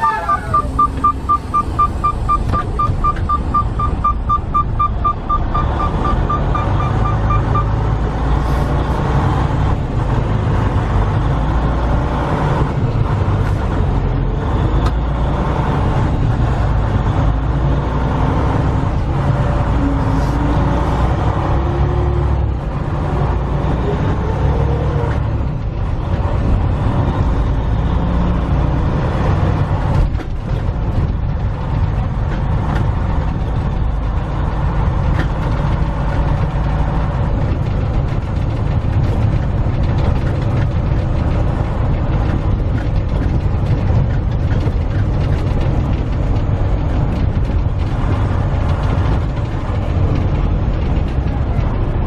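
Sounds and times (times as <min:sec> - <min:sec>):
diesel truck engine rumble: 0:00.0 - 0:52.0
road noise: 0:00.0 - 0:52.0.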